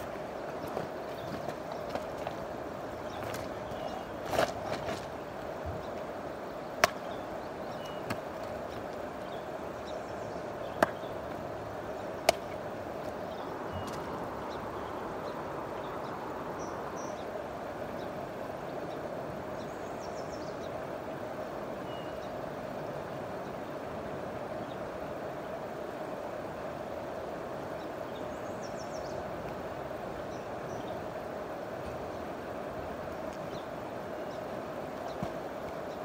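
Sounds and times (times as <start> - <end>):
river water running: 0.0 - 36.0.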